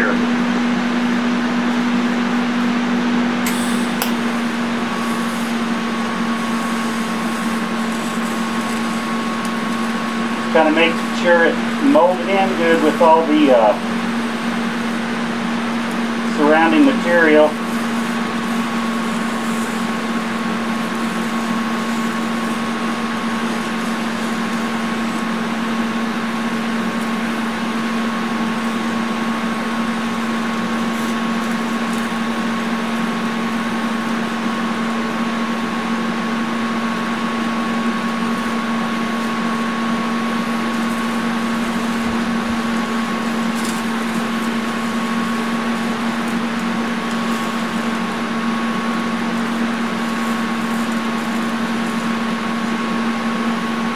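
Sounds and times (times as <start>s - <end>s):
welding arc buzzing and hissing: 0.0s - 53.9s.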